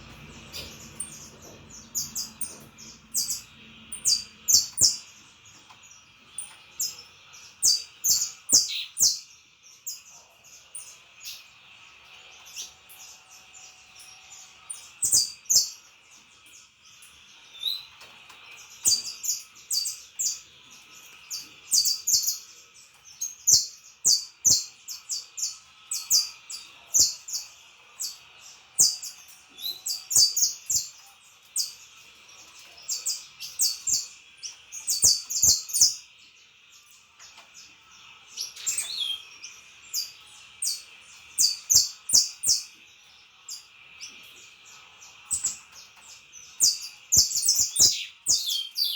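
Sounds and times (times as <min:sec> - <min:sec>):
finch singing: 0:00.0 - 0:48.9.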